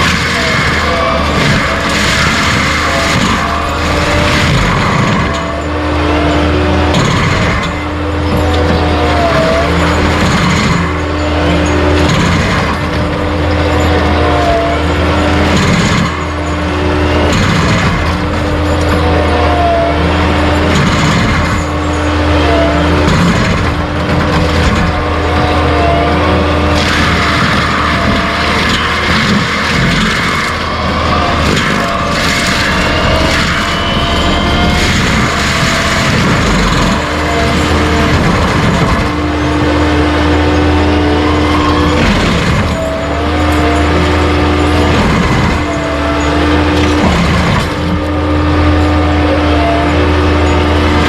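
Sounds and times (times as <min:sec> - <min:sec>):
mulcher grinding stumps: 0:00.0 - 0:51.0
skid steer engine running: 0:00.0 - 0:51.0.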